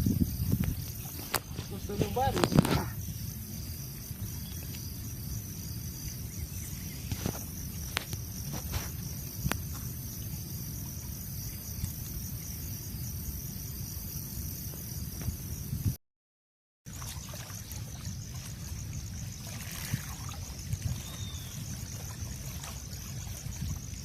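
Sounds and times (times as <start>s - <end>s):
insects trilling: 0.0s - 16.0s, 16.9s - 24.0s.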